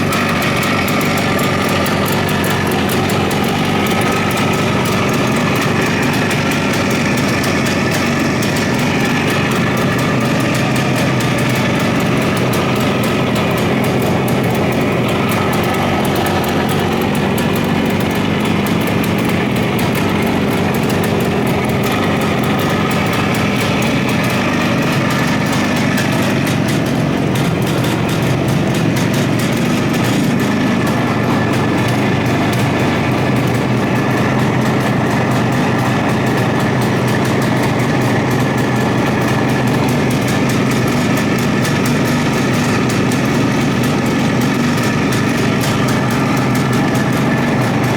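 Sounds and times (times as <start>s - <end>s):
two-stroke twin engine running: 0.0s - 47.9s.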